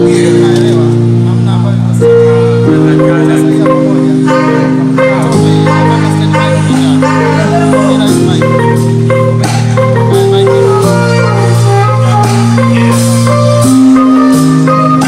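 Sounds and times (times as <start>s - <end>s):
live band instrumental music: 0.0s - 15.0s.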